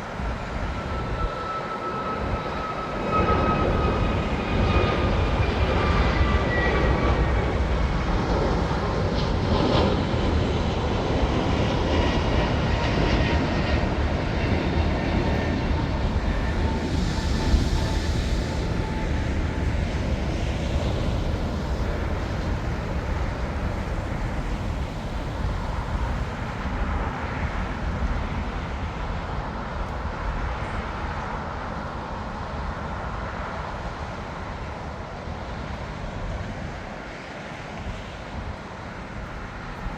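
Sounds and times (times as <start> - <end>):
high engine whine: 0.0 - 39.9
jet engines rumbling: 0.0 - 39.9.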